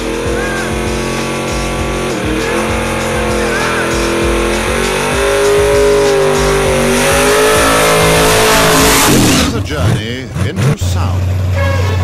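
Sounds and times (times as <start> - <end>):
rap music with steady beat: 0.0 - 10.2
car engine revving in burnout: 0.0 - 12.0.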